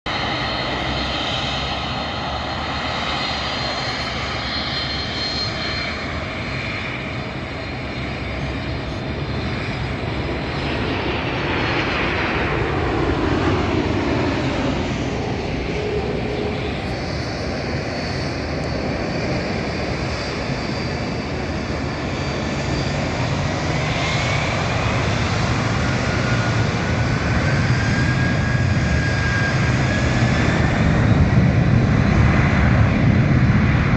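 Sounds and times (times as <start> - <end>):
jet engines running: 0.1 - 33.9.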